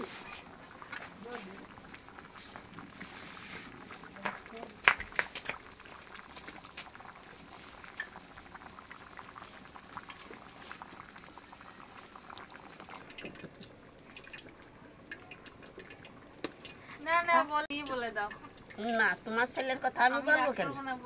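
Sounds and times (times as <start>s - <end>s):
curry bubbling in a wok: 0.0s - 21.0s.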